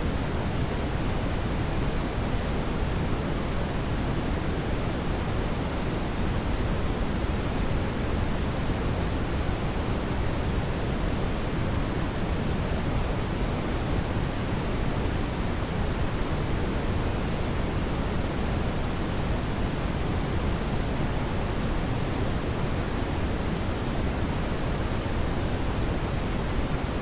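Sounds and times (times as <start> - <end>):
brown noise hiss: 0.0 - 27.0.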